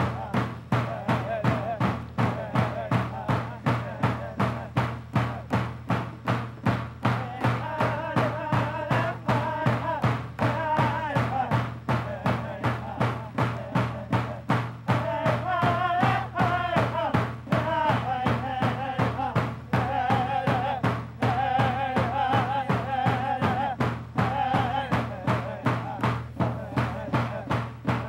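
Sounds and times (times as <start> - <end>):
steady drum beat: 0.0 - 28.0.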